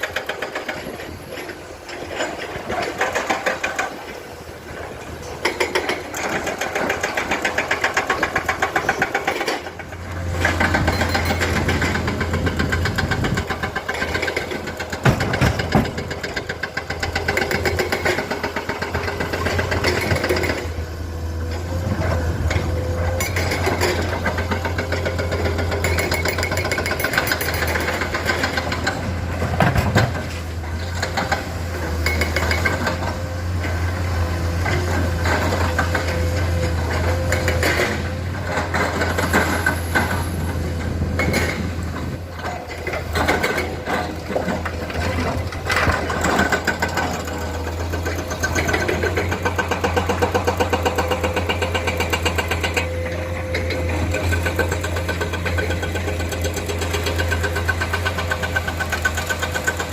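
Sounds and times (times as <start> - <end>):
sharp knocks and clatter: 0.0 - 4.2, 5.2 - 20.8, 21.4 - 59.9
excavator diesel engine running: 0.0 - 59.9.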